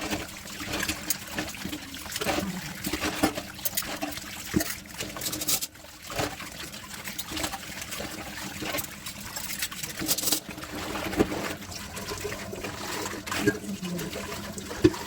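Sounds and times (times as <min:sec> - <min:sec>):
tap water running over dishes: 0:00.0 - 0:15.0.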